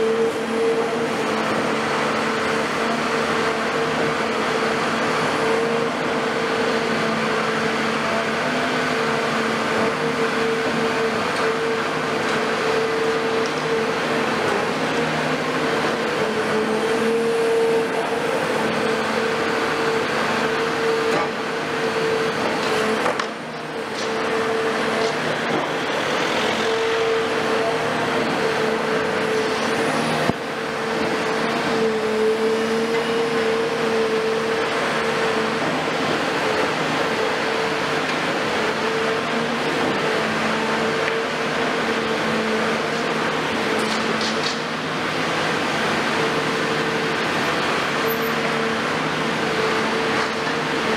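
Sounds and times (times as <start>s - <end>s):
excavator diesel engine: 0.0s - 50.9s
hydraulic whine: 0.0s - 50.9s.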